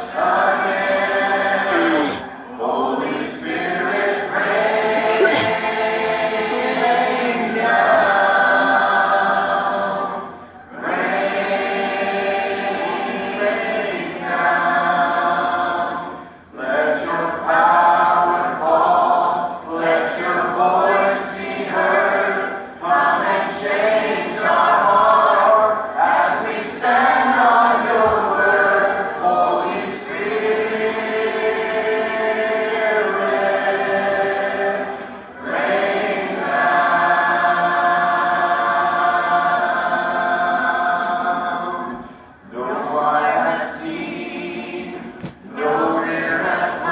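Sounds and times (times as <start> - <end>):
choir singing a cappella: 0.0 - 46.9.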